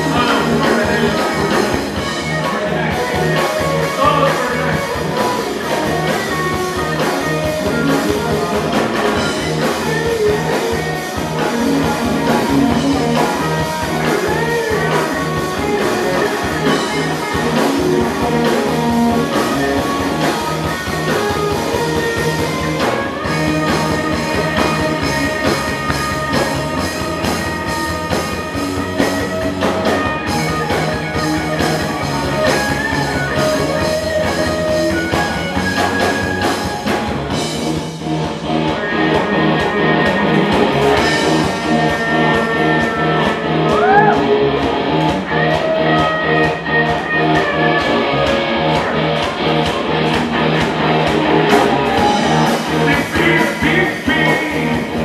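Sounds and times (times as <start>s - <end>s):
drum kit: 0.0s - 55.0s
electric guitars: 0.0s - 55.0s
live rock band playing: 0.0s - 55.0s.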